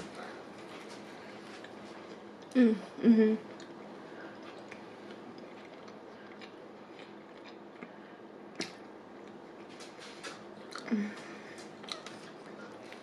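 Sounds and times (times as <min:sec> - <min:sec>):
quiet chewing: 0:00.0 - 0:02.6, 0:03.5 - 0:13.0
low room hiss: 0:00.0 - 0:13.0.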